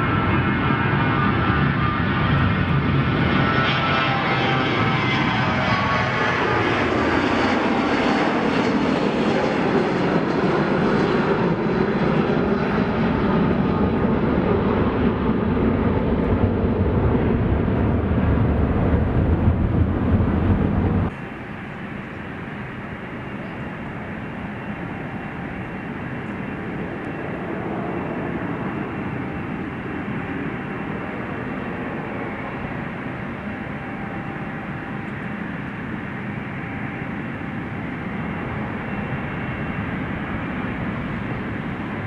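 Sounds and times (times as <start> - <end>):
airliner engines passing: 0.0 - 42.0.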